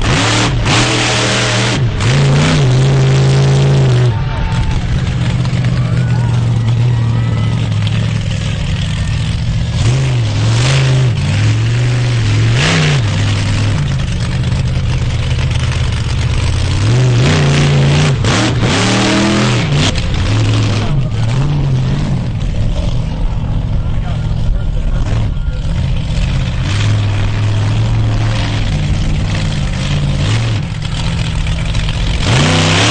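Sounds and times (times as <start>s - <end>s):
monster truck engine revving: 0.0s - 32.9s.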